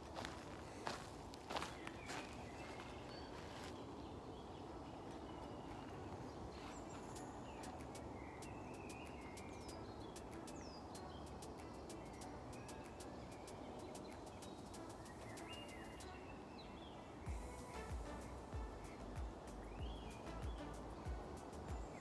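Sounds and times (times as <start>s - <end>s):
birds chirping: 0.0s - 22.0s
low forest background hum: 0.0s - 22.0s.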